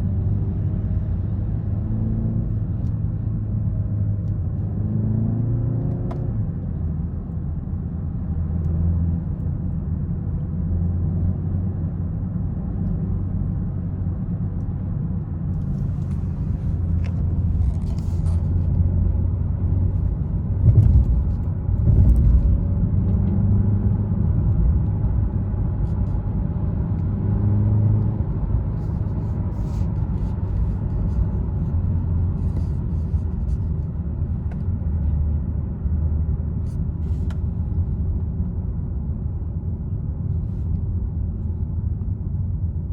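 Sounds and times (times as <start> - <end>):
road rumble: 0.0 - 42.9.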